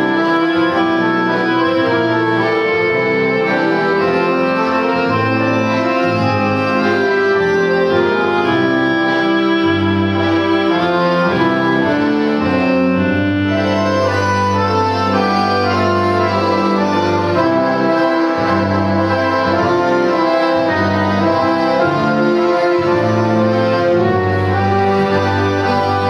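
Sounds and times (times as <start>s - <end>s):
accordion orchestra playing: 0.0s - 26.0s.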